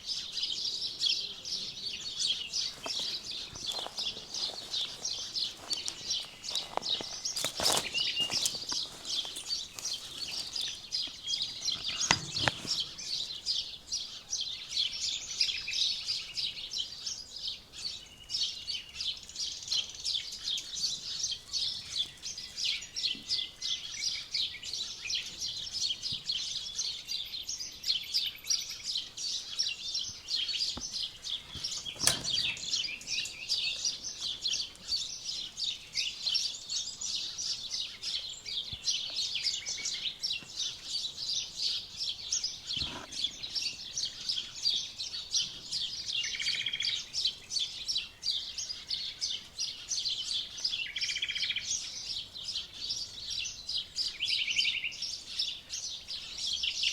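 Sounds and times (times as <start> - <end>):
many birds chirping: 0.0 - 56.9.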